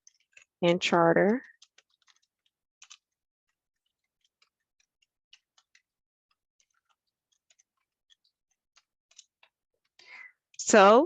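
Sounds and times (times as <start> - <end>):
computer keyboard typing: 0.0 - 10.9.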